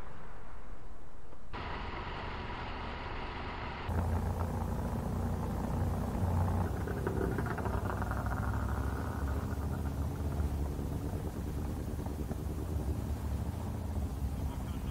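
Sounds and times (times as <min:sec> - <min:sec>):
motorcycle engine rumble: 0:00.0 - 0:14.9.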